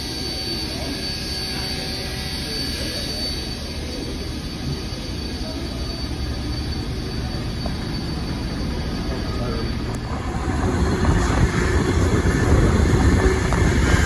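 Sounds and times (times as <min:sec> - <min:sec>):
steam locomotive hissing: 0:00.0 - 0:14.0
thin high whine: 0:00.0 - 0:14.0.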